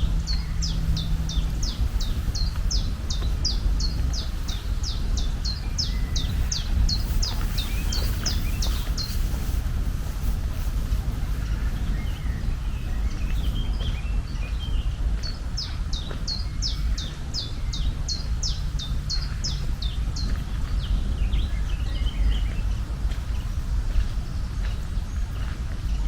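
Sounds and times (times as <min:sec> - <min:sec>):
songbird chirping: 0:00.0 - 0:09.8, 0:10.6 - 0:26.0
low outdoor rumble: 0:00.0 - 0:26.0.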